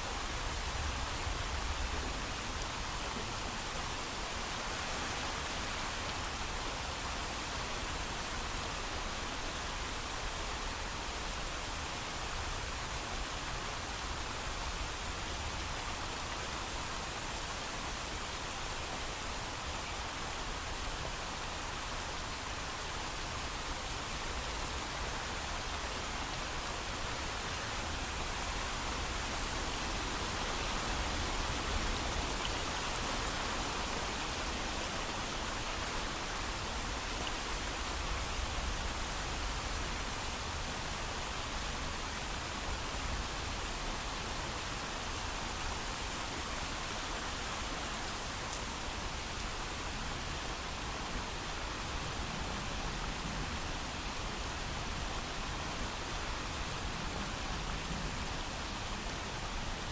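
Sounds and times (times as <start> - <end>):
heavy rain: 0.1 - 59.9.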